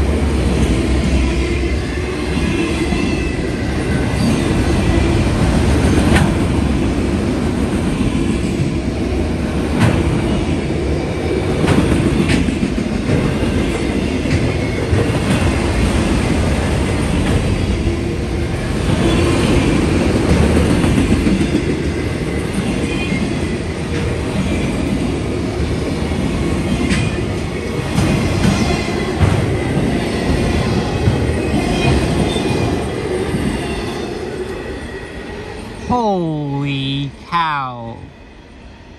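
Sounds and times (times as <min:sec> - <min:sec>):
steel wheels rumbling on rail: 0:00.0 - 0:35.9.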